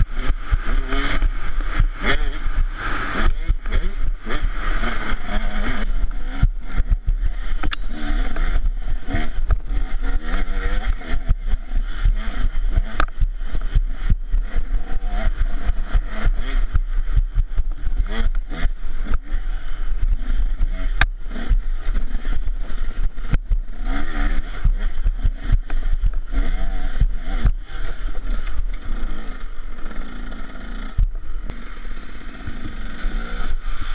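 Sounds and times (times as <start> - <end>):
dirt bike engine revving: 0.0 - 33.9
wind and bumps on microphone: 0.0 - 33.9.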